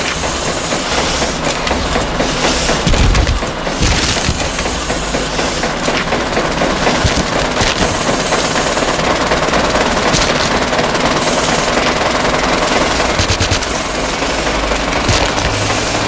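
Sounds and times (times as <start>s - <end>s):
rapid mechanical rattling: 0.0s - 16.0s.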